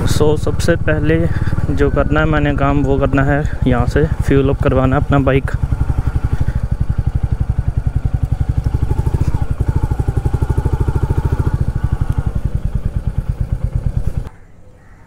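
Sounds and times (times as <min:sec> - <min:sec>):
motorcycle engine at low revs: 0:00.0 - 0:14.4.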